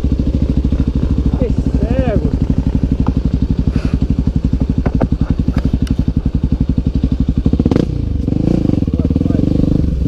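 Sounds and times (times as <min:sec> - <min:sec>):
motorcycle engine chugging: 0:00.0 - 0:10.0.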